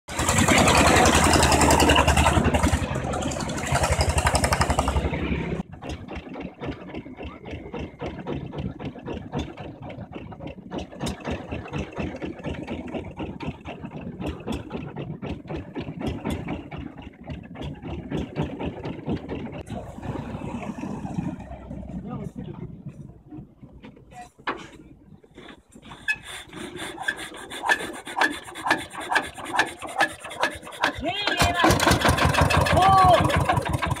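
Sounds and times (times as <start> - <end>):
diesel engine running loud: 0.1 - 24.0, 24.7 - 34.0
boat engine puttering: 0.1 - 34.0.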